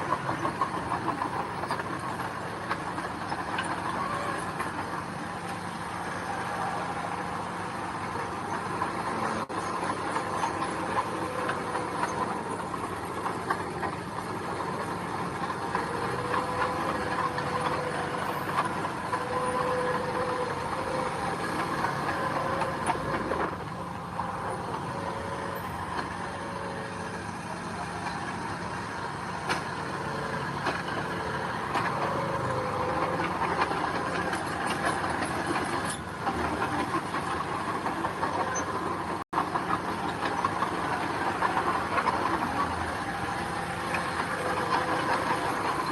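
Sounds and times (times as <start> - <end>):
diesel machinery engine drone: 0.0 - 45.9.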